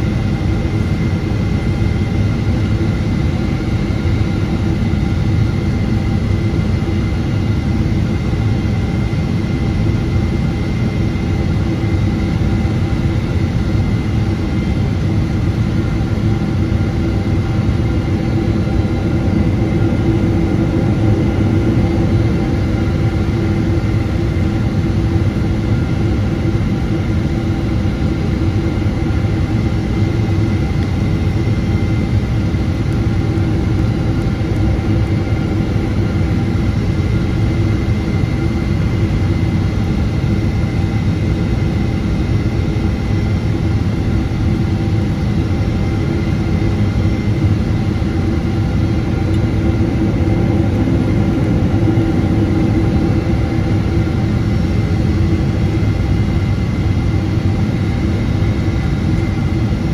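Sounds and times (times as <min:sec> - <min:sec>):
airplane cabin deep rumble: 0:00.0 - 0:59.9.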